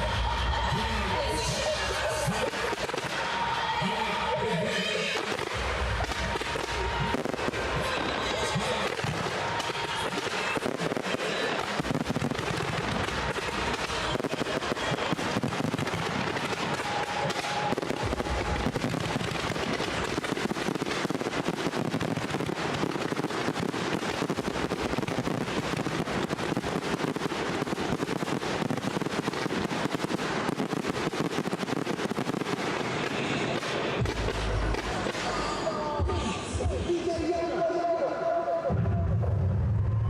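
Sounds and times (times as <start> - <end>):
fireworks cracking and banging: 0.0 - 40.0.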